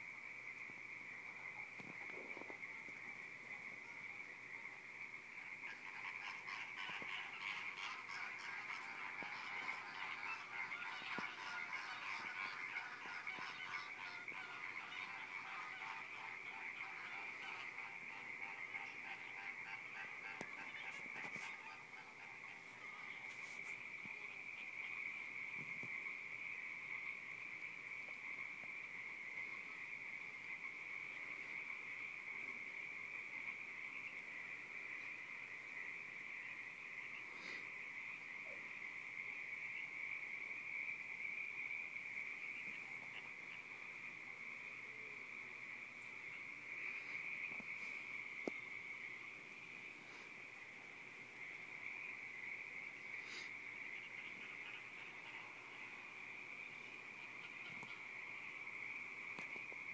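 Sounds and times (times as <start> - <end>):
crickets chirping: 0.0 - 59.9
faint high-pitched sounds: 0.0 - 59.9.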